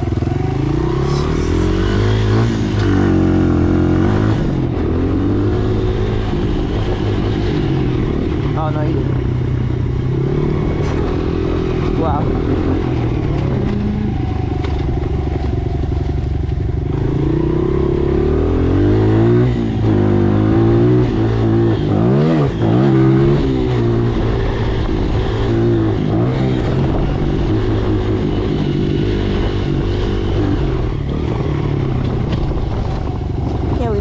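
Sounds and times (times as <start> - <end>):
dirt bike engine revving: 0.0 - 16.0, 16.7 - 34.0.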